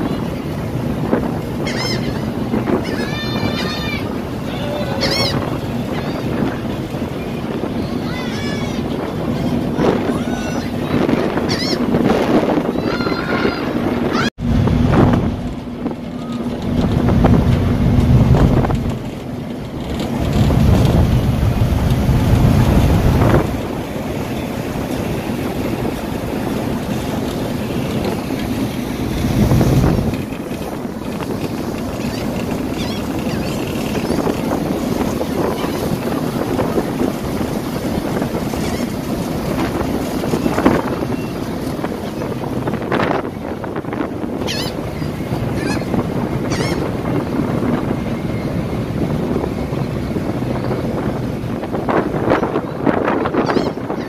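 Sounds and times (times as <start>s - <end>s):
churning wake water rushing: 0.0s - 54.0s
wind buffeting microphone: 0.0s - 54.0s.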